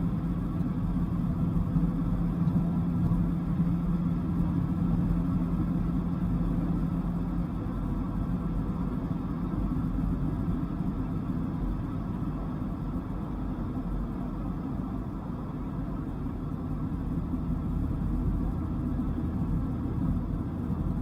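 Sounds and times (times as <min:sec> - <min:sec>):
car engine idling rumble: 0:00.0 - 0:21.0.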